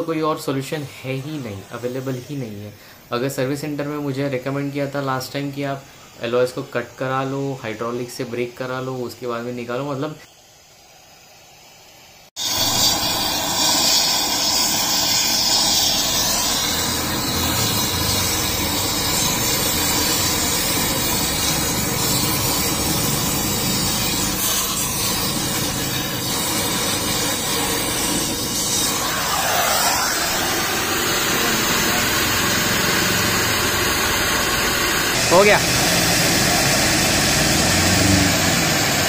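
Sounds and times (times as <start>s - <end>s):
gas welding torch hissing: 0.0s - 39.0s.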